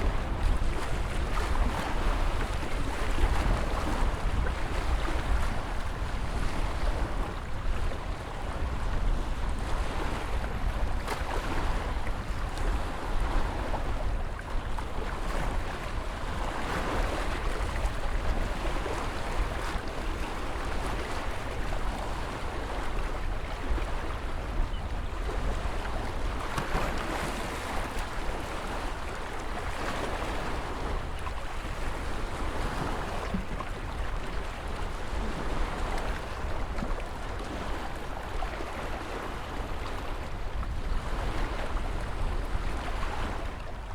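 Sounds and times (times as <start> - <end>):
ocean waves breaking: 0.0 - 43.7
wind rumble on microphone: 0.0 - 43.9.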